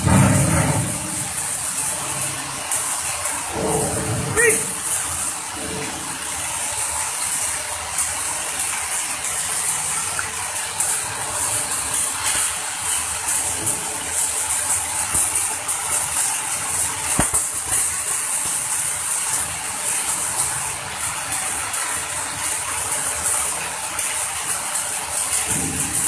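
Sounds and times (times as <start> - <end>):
welding arc crackling and hissing: 0.0 - 26.0.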